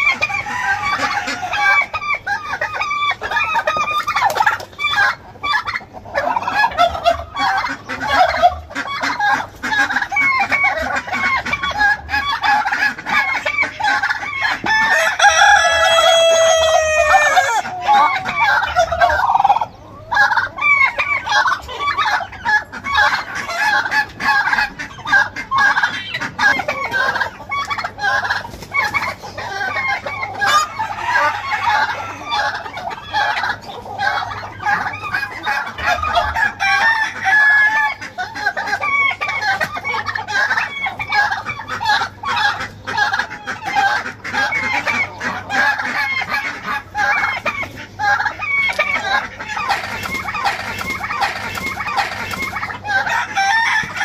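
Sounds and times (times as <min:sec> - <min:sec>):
chickens clucking: 0:00.0 - 0:54.0
roosters crowing: 0:00.0 - 0:54.0.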